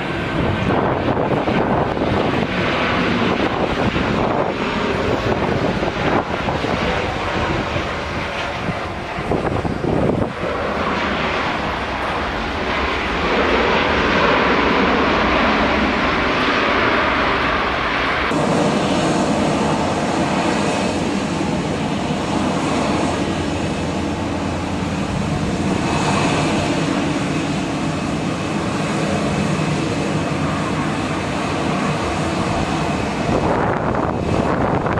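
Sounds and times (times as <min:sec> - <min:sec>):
distant jet airliner engine: 0:00.0 - 0:34.9
jet airliner engines running: 0:00.0 - 0:34.9.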